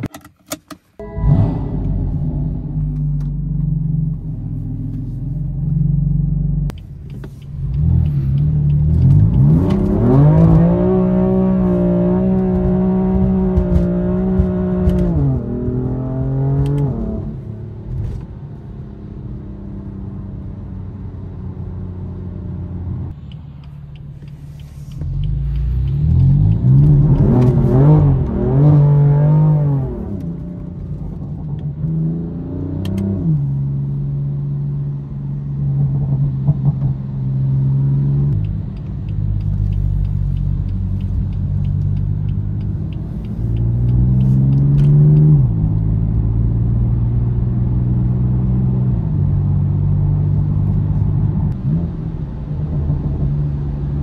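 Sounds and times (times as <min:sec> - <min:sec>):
car engine revving: 0:01.0 - 0:18.2, 0:19.1 - 0:54.0.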